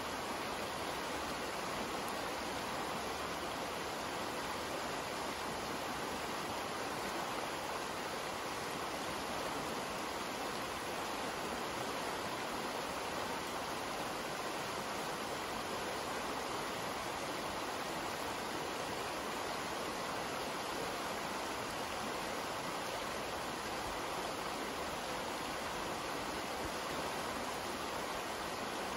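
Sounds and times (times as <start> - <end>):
creek water flowing over rocks: 0.0 - 28.9.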